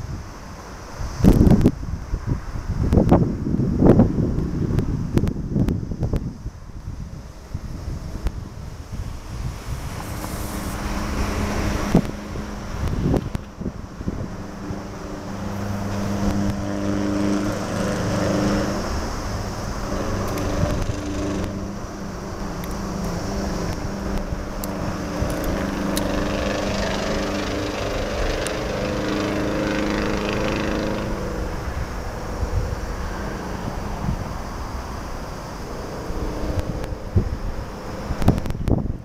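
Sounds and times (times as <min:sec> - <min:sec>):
low engine drone: 0:00.0 - 0:39.0
wind on microphone: 0:00.0 - 0:39.0.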